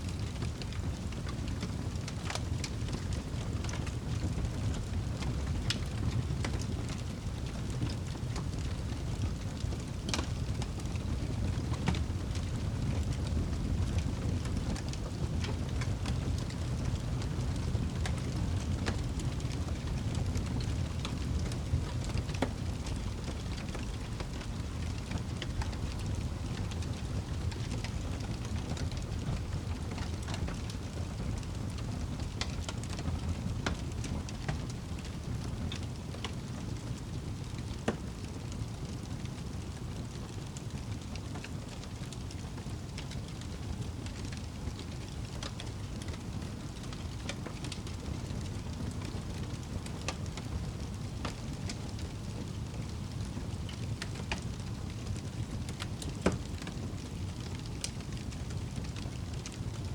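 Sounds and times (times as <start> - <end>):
wood fire crackling: 0.0 - 59.9
fire popping: 0.1 - 59.9.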